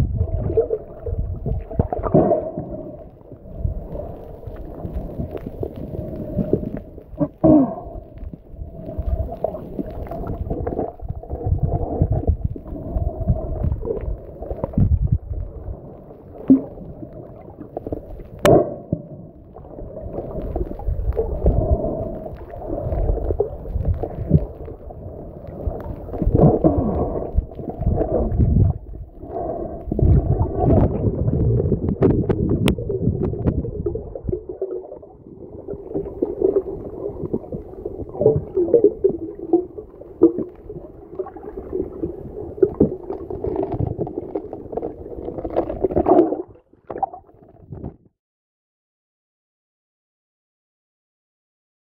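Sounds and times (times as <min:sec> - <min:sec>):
underwater rumbling and gurgling: 0:00.0 - 0:48.2.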